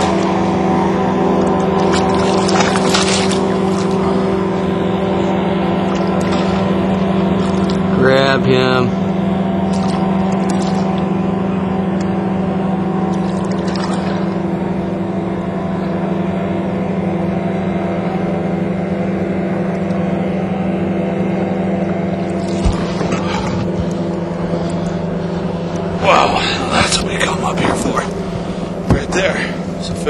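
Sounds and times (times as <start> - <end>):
boat motor humming: 0.0 - 30.0.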